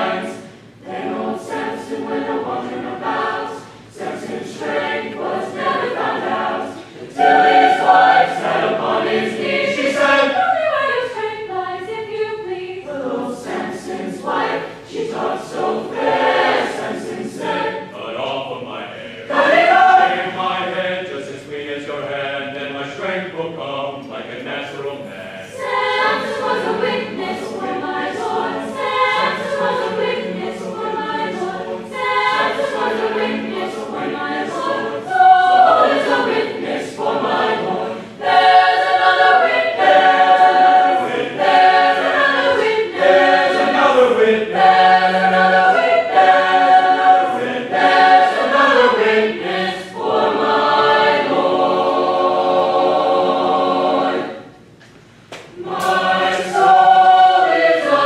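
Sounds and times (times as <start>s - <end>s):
choir singing: 0.0s - 54.7s, 55.5s - 58.0s.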